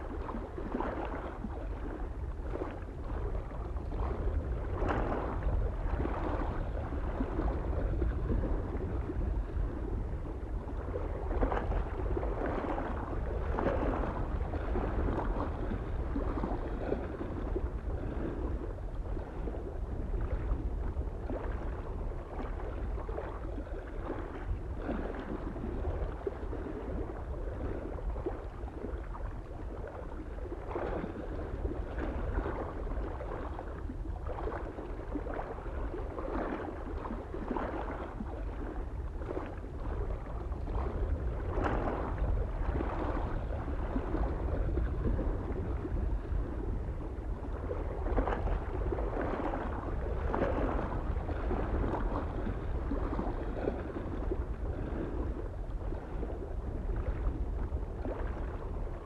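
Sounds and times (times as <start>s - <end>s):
low wind rumble: 0.0s - 59.0s
waves lapping on shore: 0.0s - 59.0s.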